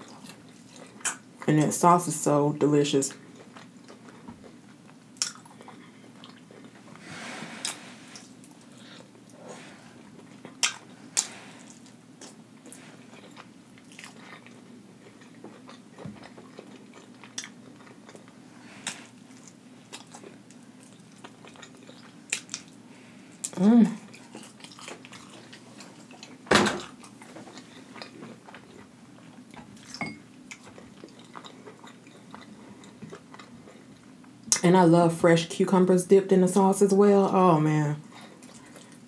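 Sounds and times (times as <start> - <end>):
close-up chewing: 0.0 - 1.2, 3.1 - 7.0, 7.7 - 34.6, 38.1 - 39.0
faint steady hum: 0.0 - 39.0.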